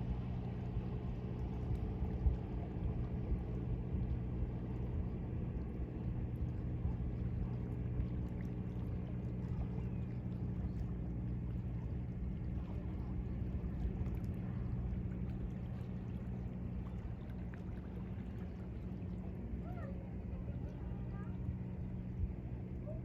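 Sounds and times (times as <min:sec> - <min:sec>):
boat engine drone: 0:00.0 - 0:23.0.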